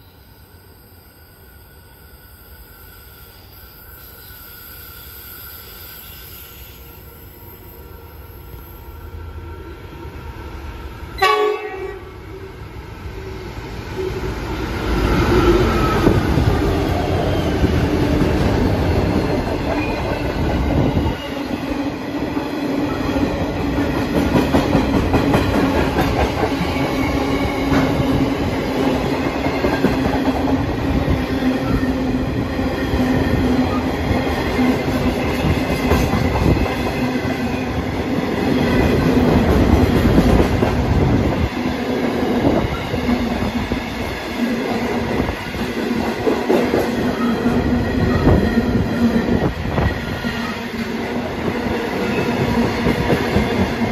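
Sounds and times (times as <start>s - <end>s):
diesel locomotive: 0.0s - 53.9s.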